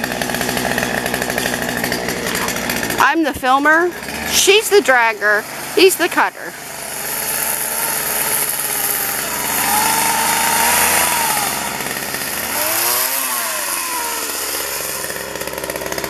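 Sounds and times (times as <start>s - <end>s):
chainsaw cutting branch: 0.0s - 16.0s.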